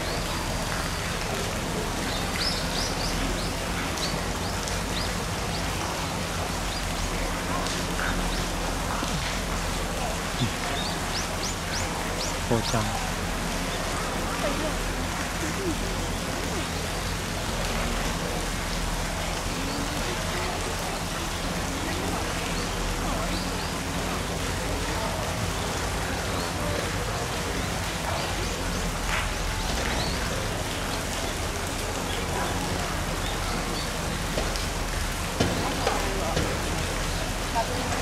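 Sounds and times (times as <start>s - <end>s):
faint distant voices: 0.0s - 38.0s.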